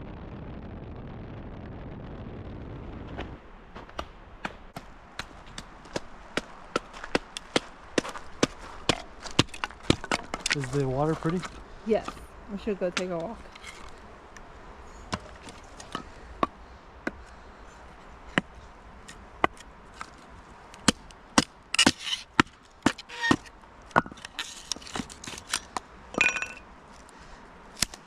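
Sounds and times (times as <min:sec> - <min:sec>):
crackling rustles: 0:00.0 - 0:28.0.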